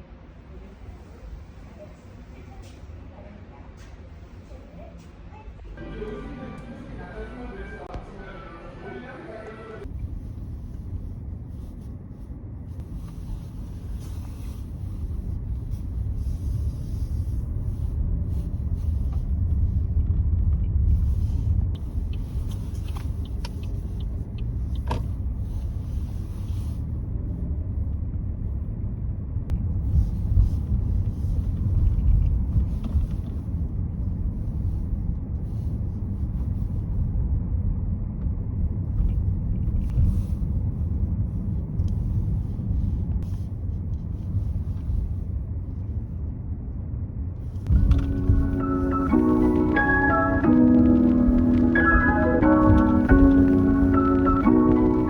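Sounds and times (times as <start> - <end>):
low rumble of road and engine: 0.0 - 55.0.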